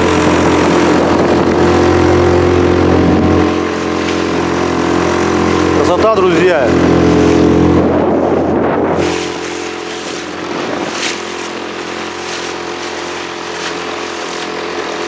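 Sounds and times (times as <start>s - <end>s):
choppy water hissing: 0.0s - 15.0s
motorboat engine running: 0.0s - 15.0s
wind: 0.0s - 15.0s.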